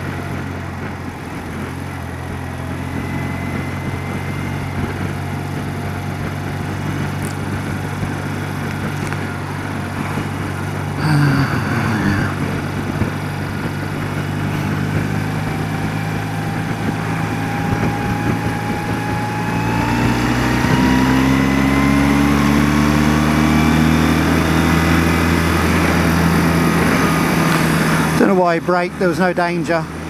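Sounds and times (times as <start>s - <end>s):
wind noise: 0.0s - 28.2s
motorcycle engine running: 0.0s - 30.0s.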